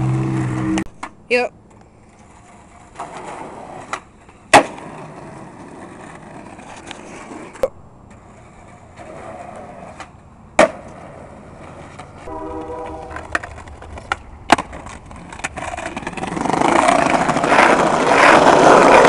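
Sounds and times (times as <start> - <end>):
skateboard wheels rolling on asphalt: 0.0 - 19.0
skateboard clacking on ground: 2.2 - 19.0.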